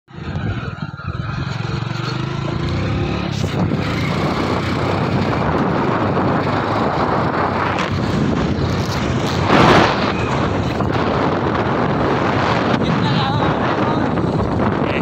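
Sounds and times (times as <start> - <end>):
motorcycle engine running: 0.1 - 15.0
wind noise on microphone: 0.1 - 15.0.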